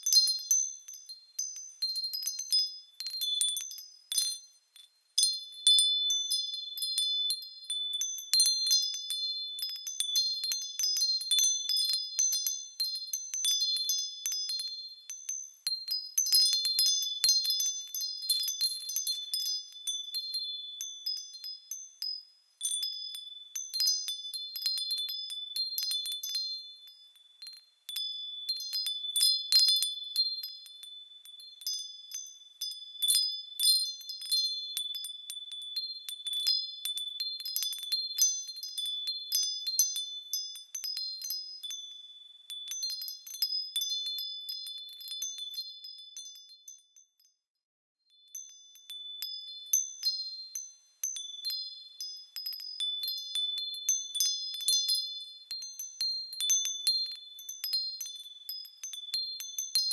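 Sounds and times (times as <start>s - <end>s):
small metal bells tinkling: 0.0s - 59.9s.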